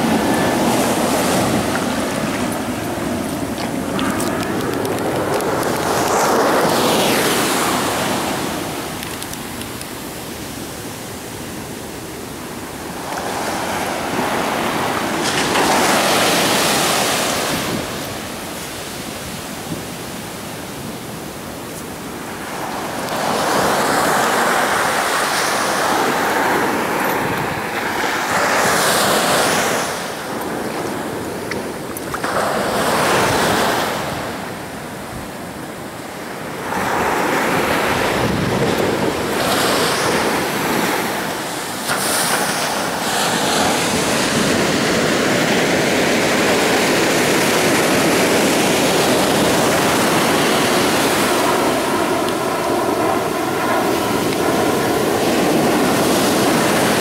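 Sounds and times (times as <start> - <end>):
ocean waves crashing: 0.0 - 57.0.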